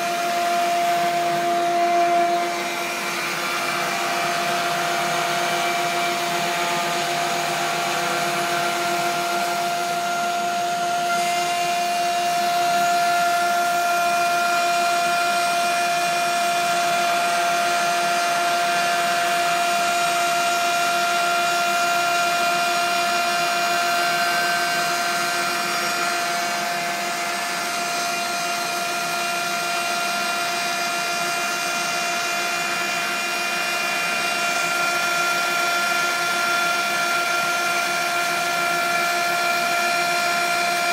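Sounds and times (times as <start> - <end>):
power tool motor whining: 0.0 - 40.9.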